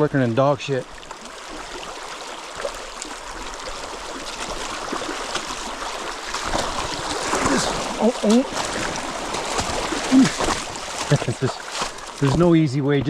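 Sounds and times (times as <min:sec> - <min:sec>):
river water rushing over rocks: 0:01.0 - 0:12.4.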